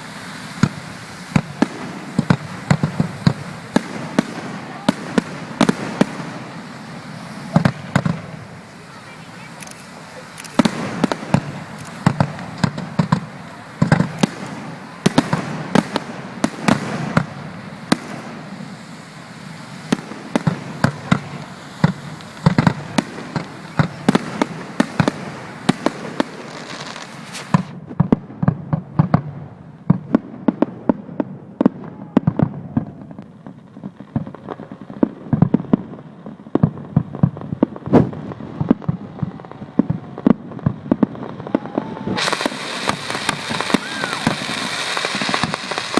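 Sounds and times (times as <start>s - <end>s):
fireworks bursts and bangs: 0.0s - 45.9s.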